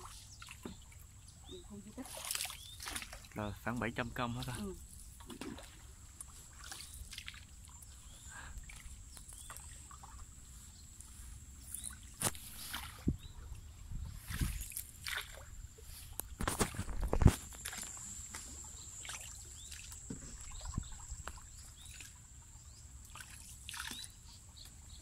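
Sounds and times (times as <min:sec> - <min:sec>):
paddle splashing in water: 0:00.0 - 0:22.4, 0:23.0 - 0:24.2.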